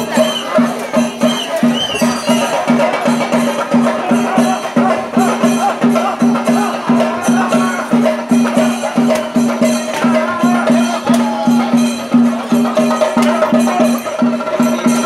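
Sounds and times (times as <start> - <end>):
drum beating steady rhythm: 0.0 - 15.0
wavering melody: 0.0 - 15.0.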